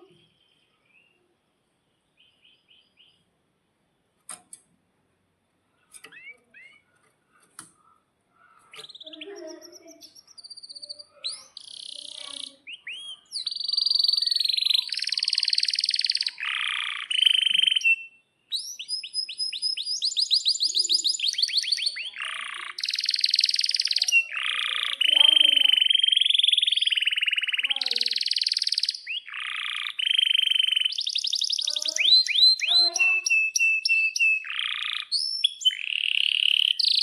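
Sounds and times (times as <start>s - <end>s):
canary singing: 2.2s - 3.2s, 5.7s - 37.0s.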